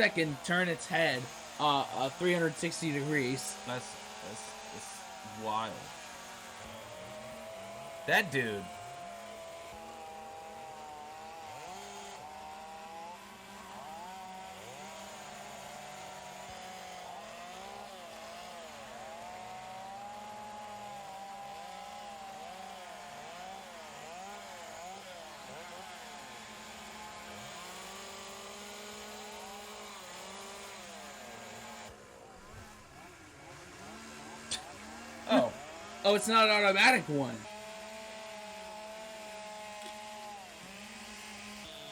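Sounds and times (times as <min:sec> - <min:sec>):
chainsaws revving cutting wood: 0:00.0 - 0:41.9.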